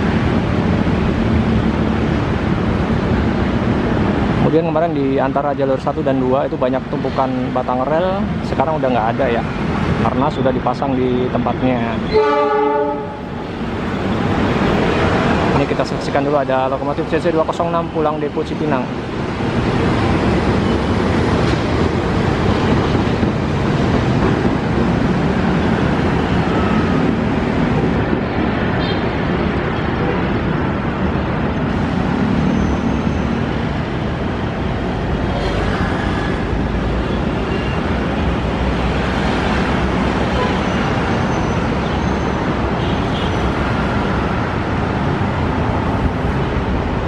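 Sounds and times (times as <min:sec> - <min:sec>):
locomotive rumbling: 0:00.0 - 0:47.0
outdoor noise: 0:00.0 - 0:47.0.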